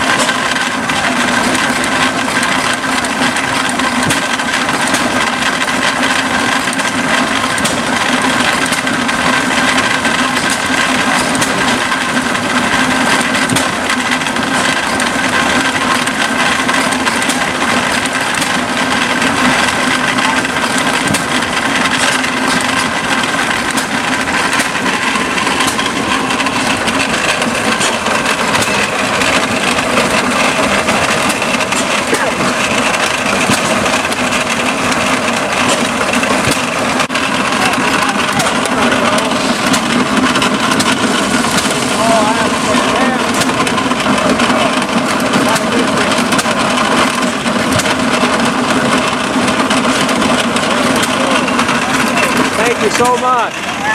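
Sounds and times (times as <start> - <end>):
feed grinder grinding corn: 0.0 - 53.9.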